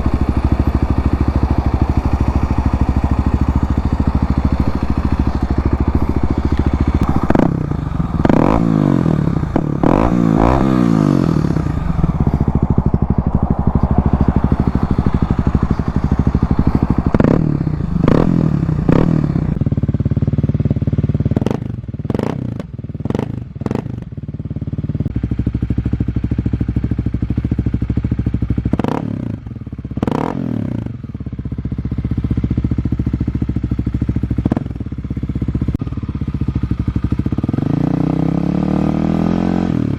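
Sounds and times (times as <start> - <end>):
motorcycle engine throttle blips: 0.0 - 39.9.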